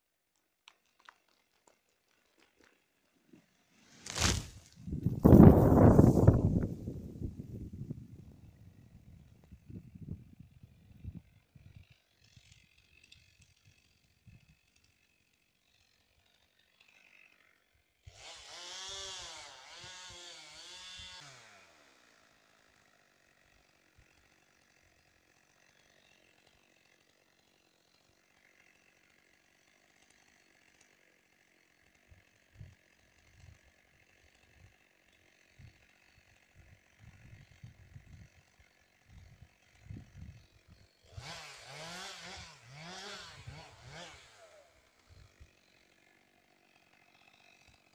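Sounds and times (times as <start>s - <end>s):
chainsaw revving: 3.5s - 7.7s, 8.5s - 47.9s.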